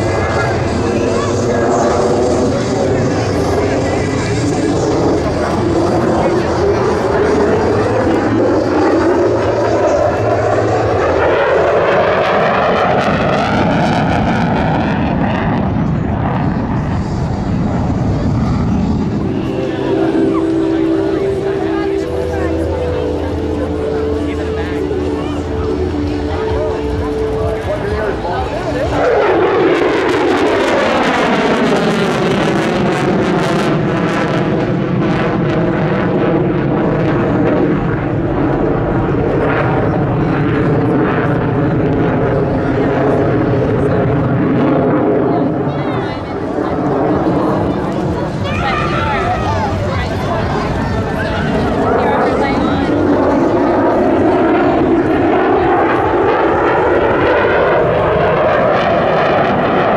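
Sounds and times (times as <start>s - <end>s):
jet engine roaring in flight: 0.0s - 59.9s.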